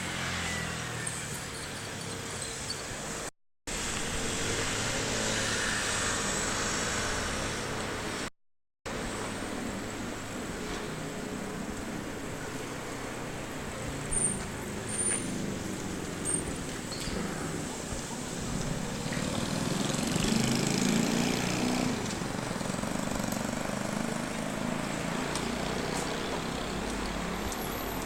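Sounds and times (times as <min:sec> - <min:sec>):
vehicle rumble and hiss: 0:00.0 - 0:08.3, 0:08.9 - 0:28.0.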